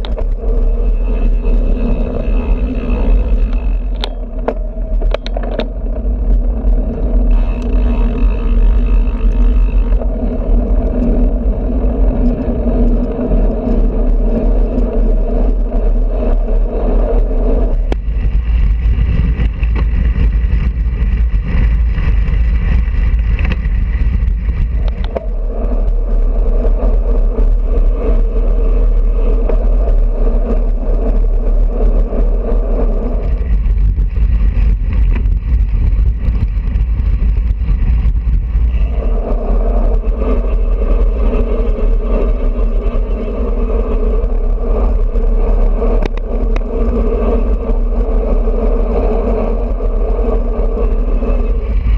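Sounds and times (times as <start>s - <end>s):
bicycle tyre noise: 0.0s - 51.9s
droning hum: 0.0s - 51.9s
low rumble: 0.0s - 51.9s
wind on microphone: 0.0s - 51.9s.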